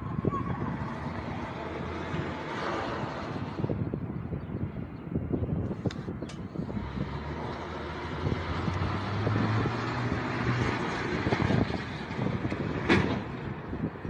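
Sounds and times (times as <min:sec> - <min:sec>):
car road and engine noise: 0:00.0 - 0:14.0
wind buffeting microphone: 0:00.0 - 0:14.0.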